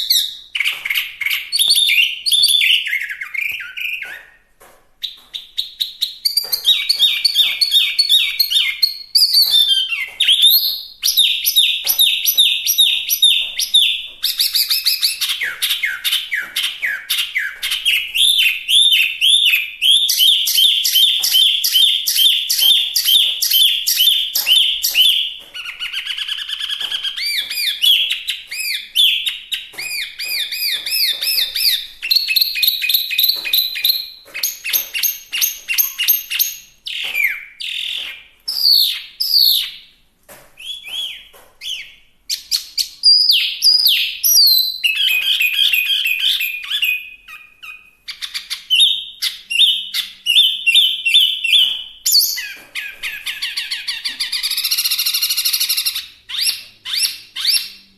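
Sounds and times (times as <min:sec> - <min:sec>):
bird singing whistled song: 0:00.0 - 0:39.9, 0:40.6 - 0:57.9.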